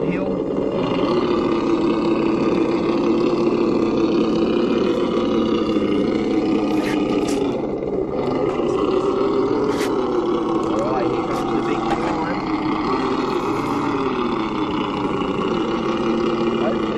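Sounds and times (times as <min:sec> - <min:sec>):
electric motor and gears whining: 0:00.0 - 0:16.9.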